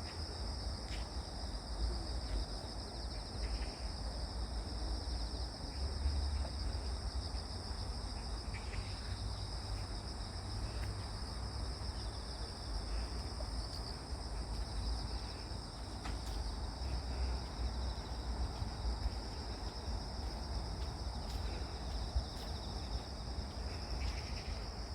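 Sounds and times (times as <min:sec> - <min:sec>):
crickets chirring: 0:00.0 - 0:24.9.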